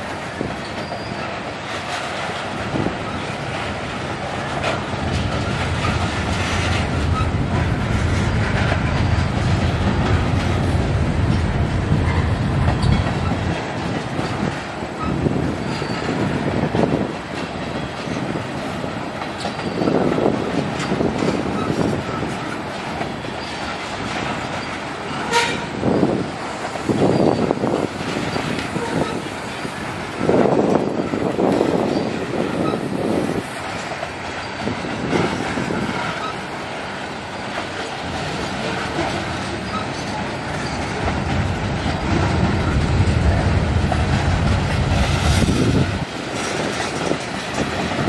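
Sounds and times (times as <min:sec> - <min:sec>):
freight train rumbling: 0:00.0 - 0:48.0
wheels clacking over rail joints: 0:00.0 - 0:48.0.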